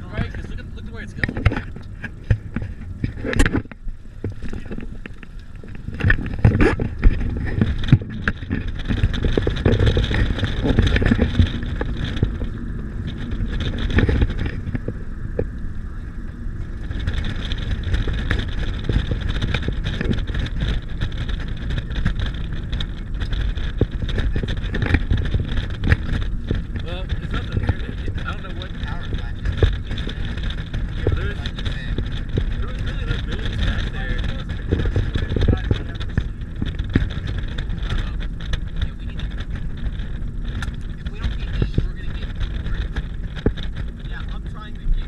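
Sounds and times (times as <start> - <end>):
knocks and rattles: 0.0 - 15.6, 16.3 - 45.0
road and engine rumble: 0.0 - 45.0.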